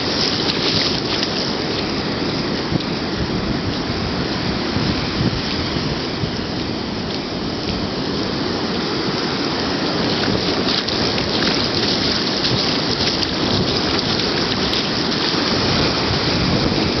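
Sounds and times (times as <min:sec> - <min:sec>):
surf washing over wet sand: 0:00.0 - 0:17.0.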